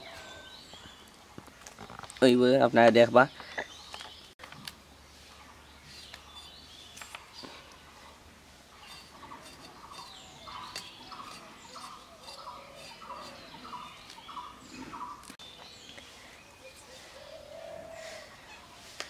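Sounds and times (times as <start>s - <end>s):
small birds chirping: 0.0s - 4.5s, 5.1s - 19.0s.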